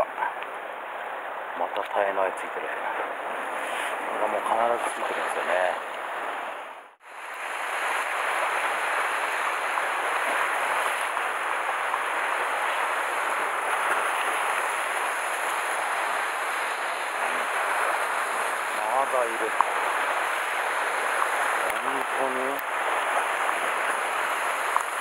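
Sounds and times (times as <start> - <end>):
surf breaking on rocky shore: 3.2 - 25.0.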